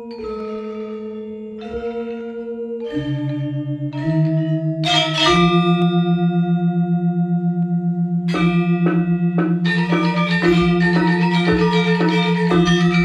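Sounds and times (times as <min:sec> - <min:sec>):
gamelan ensemble playing: 0:00.0 - 0:13.0
metallophone notes: 0:00.0 - 0:13.0.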